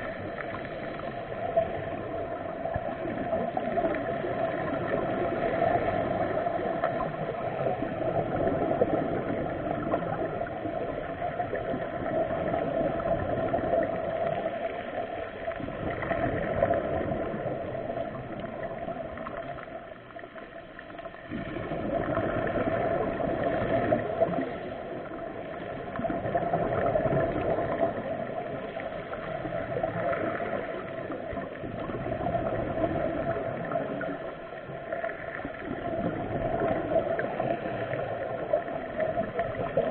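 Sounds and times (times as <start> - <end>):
underwater air bubbles gurgling: 0.0 - 39.9.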